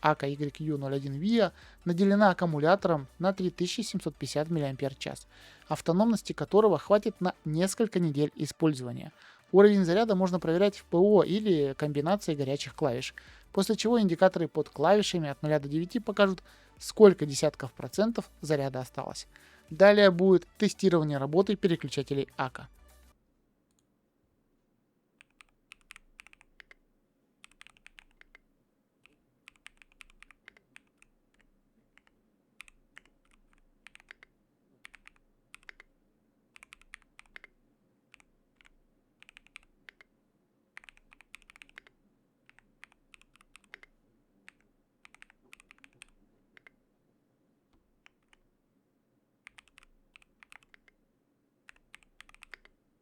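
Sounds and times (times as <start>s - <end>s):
soft keyboard typing: 0.0s - 8.9s, 9.8s - 22.6s, 25.2s - 46.8s, 47.7s - 48.6s, 49.4s - 51.0s, 51.6s - 52.8s.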